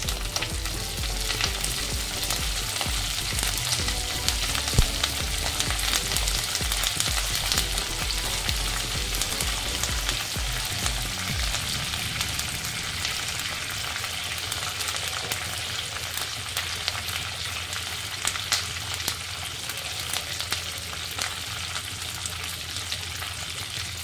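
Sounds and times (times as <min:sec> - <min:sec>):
leaves sizzling and crackling in oil: 0:00.0 - 0:24.0.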